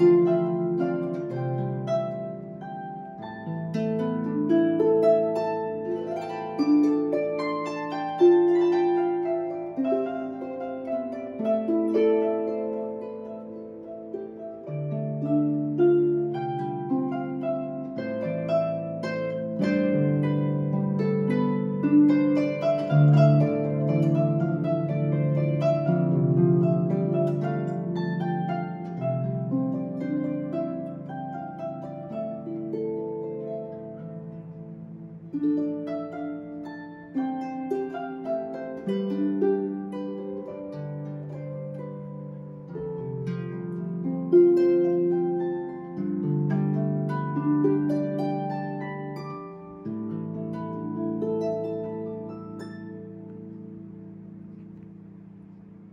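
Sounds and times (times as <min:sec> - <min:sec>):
harp plucked melody: 0:00.0 - 0:55.9.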